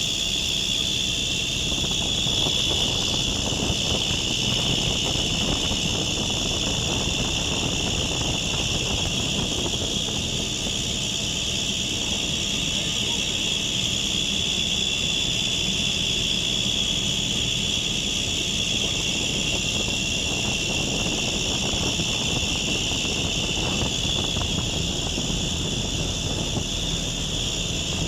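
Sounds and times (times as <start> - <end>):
high-pitched fan belt noise: 0.0 - 28.0
low machine rumble: 0.0 - 28.0.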